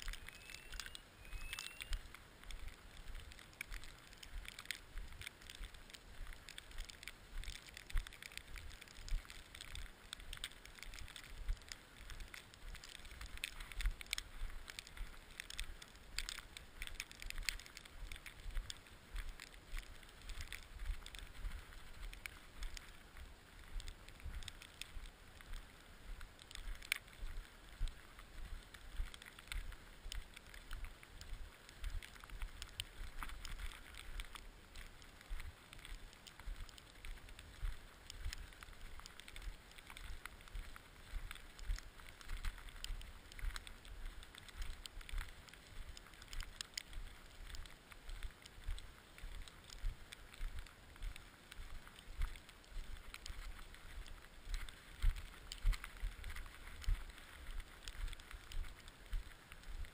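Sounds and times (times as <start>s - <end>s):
crackles and scrapes: 0.0s - 59.9s.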